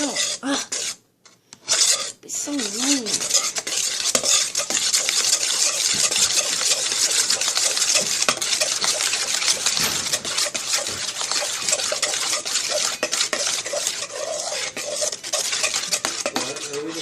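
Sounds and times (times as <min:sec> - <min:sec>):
spoon scraping wet mixture: 0:00.0 - 0:17.0.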